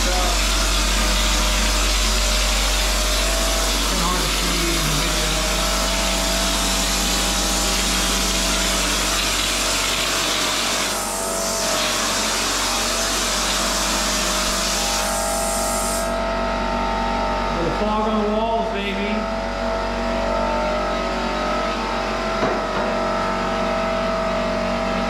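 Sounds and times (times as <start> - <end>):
compressor low hum: 0.0 - 25.0.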